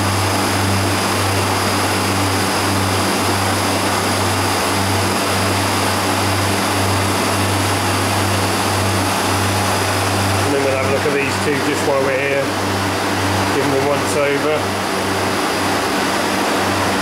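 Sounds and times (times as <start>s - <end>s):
compressor low hum: 0.0s - 17.0s
condenser fan air rush: 0.0s - 17.0s.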